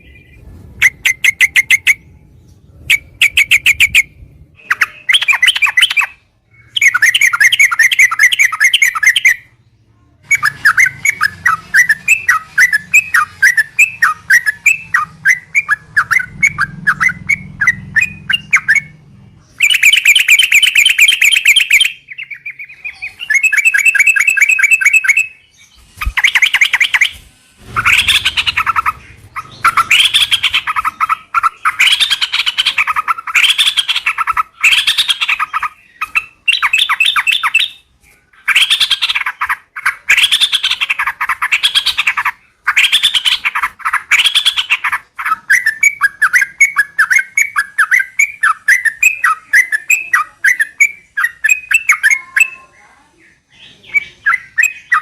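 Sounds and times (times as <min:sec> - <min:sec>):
bulbul song: 0:00.0 - 0:52.8.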